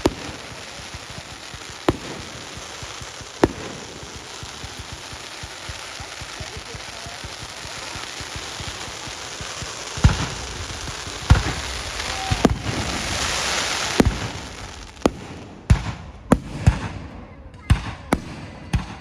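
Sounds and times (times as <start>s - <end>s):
fireworks crackling hiss: 0.0s - 17.2s
fireworks bangs: 0.0s - 19.0s.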